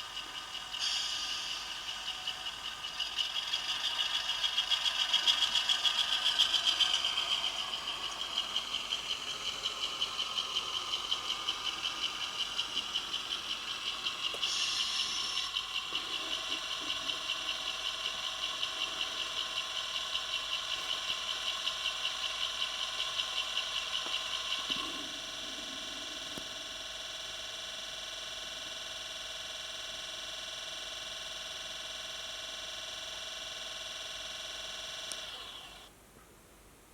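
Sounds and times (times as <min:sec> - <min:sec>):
simulated diesel engine throbbing: 0:00.0 - 0:33.4.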